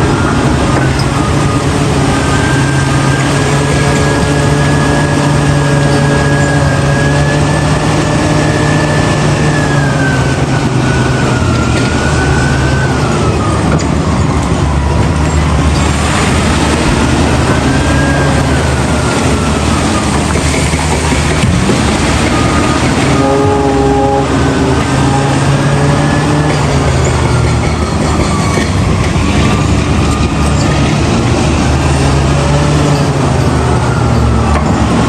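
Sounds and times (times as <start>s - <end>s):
heavy diesel machinery engine: 0.0s - 35.0s
high machine whine: 0.0s - 35.0s.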